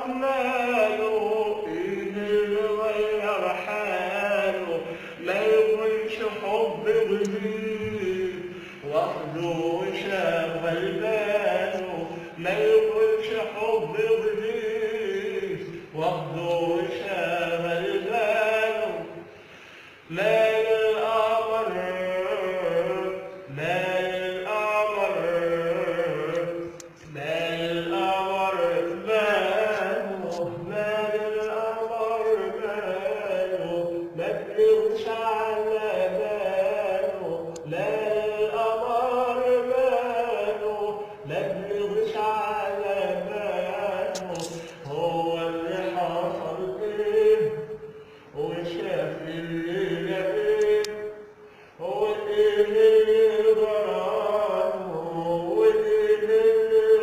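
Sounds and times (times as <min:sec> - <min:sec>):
man singing: 0:00.0 - 0:19.3, 0:20.0 - 0:57.0.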